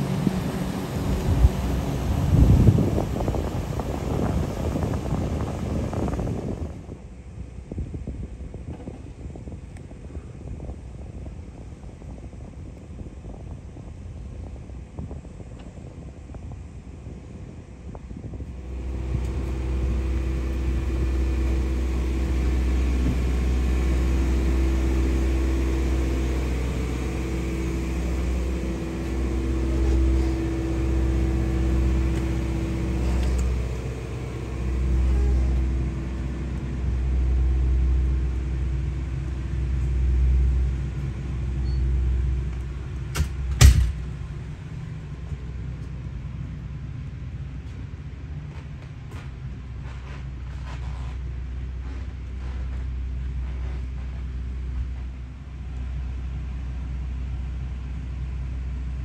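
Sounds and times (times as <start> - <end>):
boat engine hum: 0.0 - 59.0.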